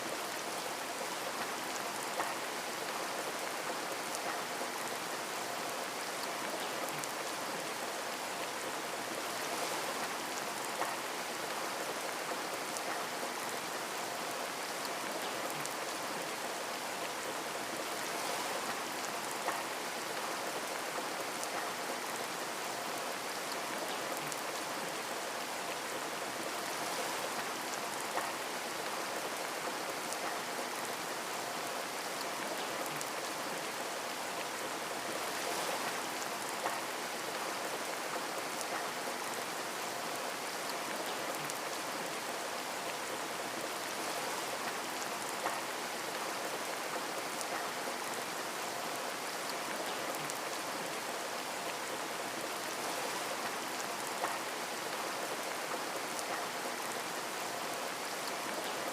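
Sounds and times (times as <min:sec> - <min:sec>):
rain ticking on a window: 0:00.0 - 0:58.9.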